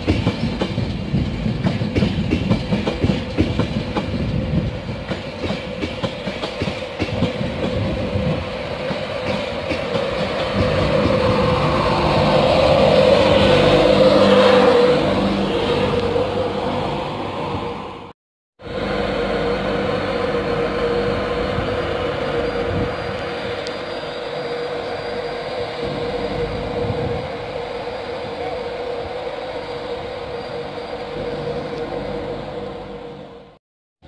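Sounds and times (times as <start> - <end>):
passenger train pulling away: 0.0 - 33.6.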